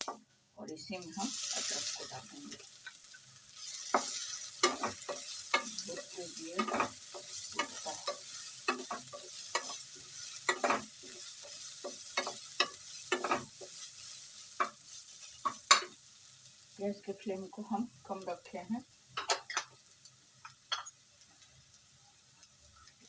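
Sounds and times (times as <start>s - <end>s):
oil sizzling with crackles: 0.0s - 23.0s
sharp crackles and pops: 1.0s - 23.0s.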